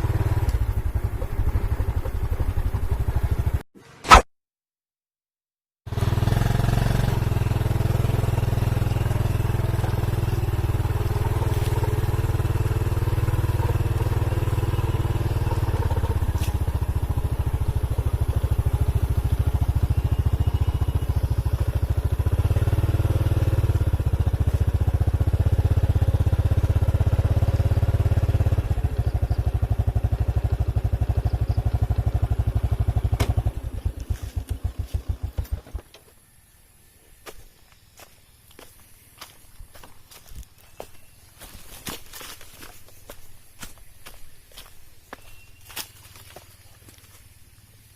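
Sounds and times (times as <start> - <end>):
motorcycle engine running: 0.0 - 3.7, 5.9 - 36.0, 39.2 - 47.9.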